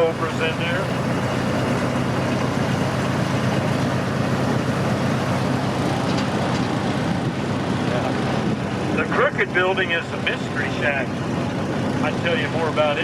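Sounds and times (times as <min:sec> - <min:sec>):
train rumbling: 0:00.0 - 0:12.8.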